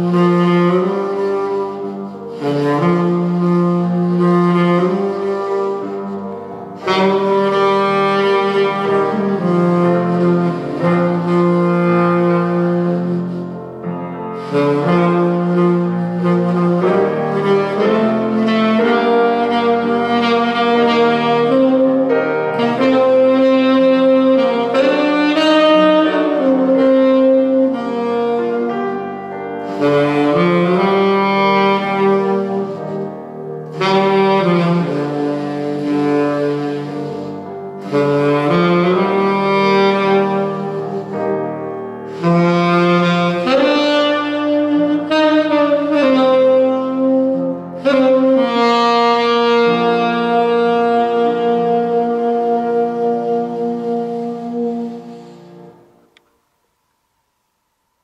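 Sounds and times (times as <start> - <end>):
saxophone melody: 0.0 - 56.2
piano accompaniment: 0.0 - 56.6.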